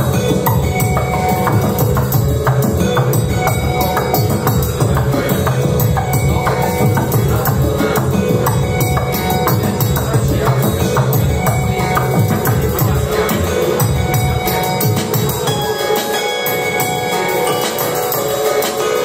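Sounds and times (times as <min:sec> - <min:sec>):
heavy bass line: 0:00.0 - 0:15.8
electronic music: 0:00.0 - 0:19.0.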